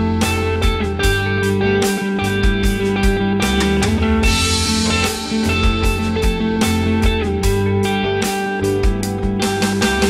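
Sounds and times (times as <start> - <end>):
ambient groove backing track: 0.0 - 10.0
electric guitar lead: 0.0 - 10.0
steady drum beat: 0.0 - 10.0.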